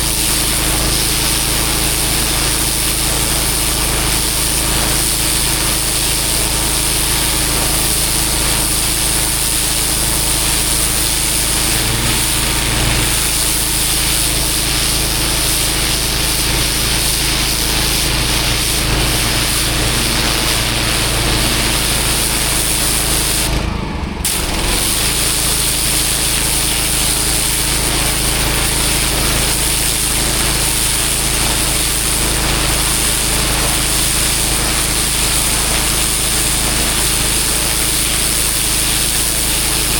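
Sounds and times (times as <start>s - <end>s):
pressure washer engine running: 0.0s - 39.9s
water jet hissing on paving: 0.0s - 39.9s.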